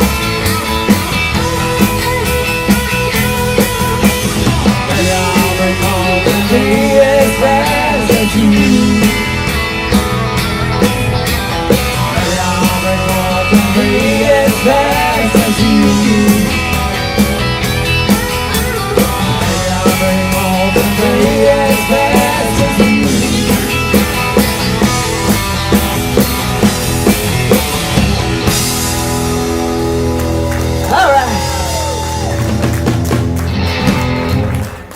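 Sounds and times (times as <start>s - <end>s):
drum kit beat: 0.0s - 34.9s
melodic electric guitar: 0.0s - 34.9s.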